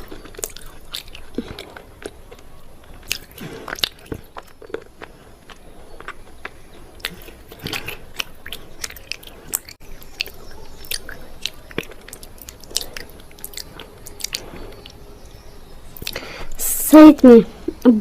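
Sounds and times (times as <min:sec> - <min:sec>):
crunching and chewing: 0:00.0 - 0:16.4.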